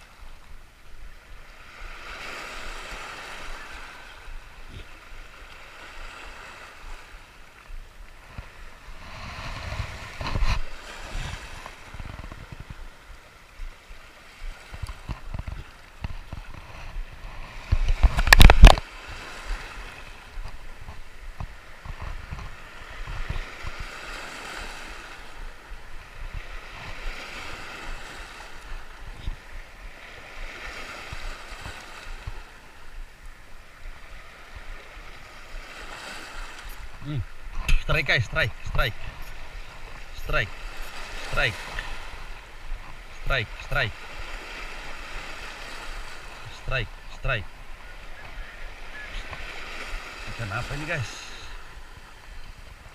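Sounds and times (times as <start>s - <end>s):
waves washing onto stony shore: 0.0s - 52.9s.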